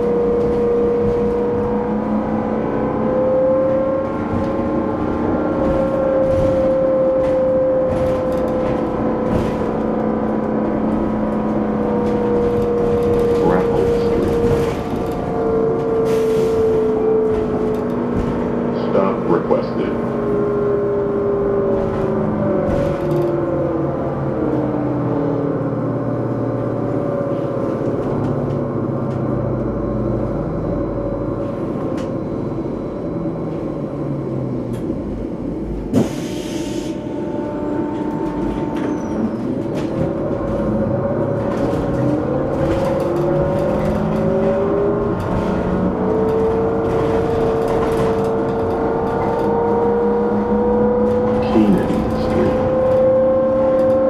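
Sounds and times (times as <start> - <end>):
road rumble: 0.0 - 54.0.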